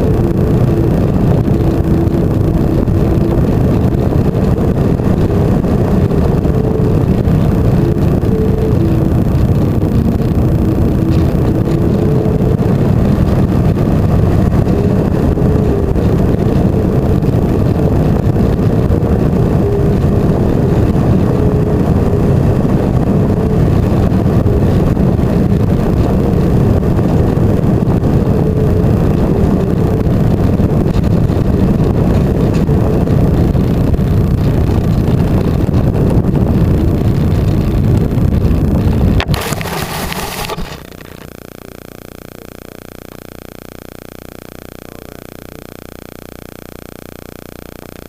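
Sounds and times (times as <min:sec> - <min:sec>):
electric motor and propeller whirring: 0:00.0 - 0:48.0.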